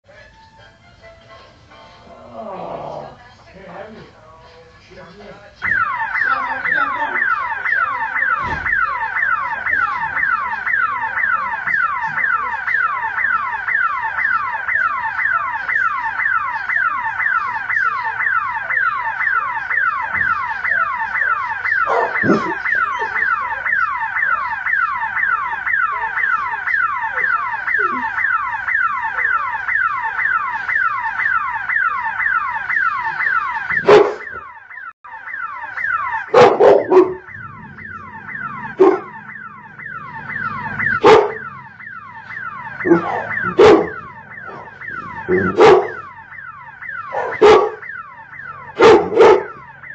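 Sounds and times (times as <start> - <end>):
car alarm siren whooping: 5.6 - 49.9.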